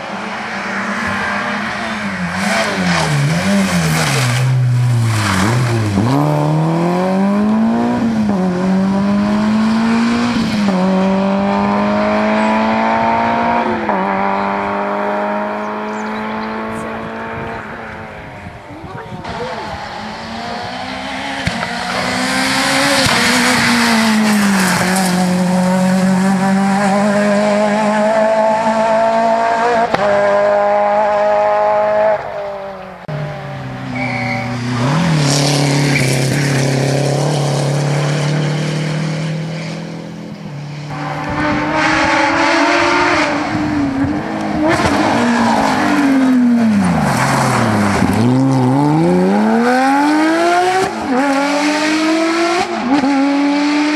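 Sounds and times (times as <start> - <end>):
car braking and accelerating: 0.0 - 53.9
rally car engines at high revs: 0.0 - 53.9.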